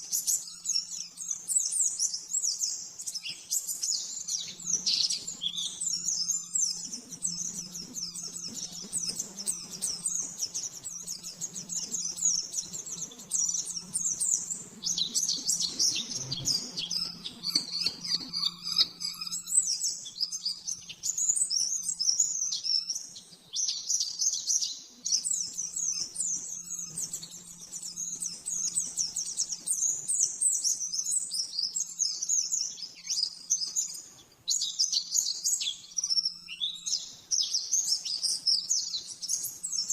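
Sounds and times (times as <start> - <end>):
bird chirping trills: 0.0 - 39.9
faint steady hum: 0.0 - 39.9.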